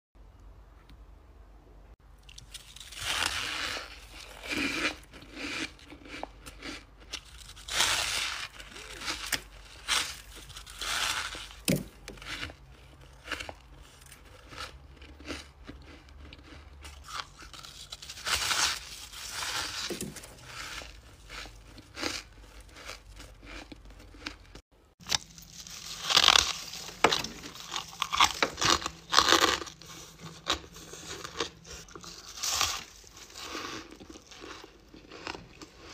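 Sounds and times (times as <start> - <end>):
chewing crunchy ice chunks: 2.2 - 35.9.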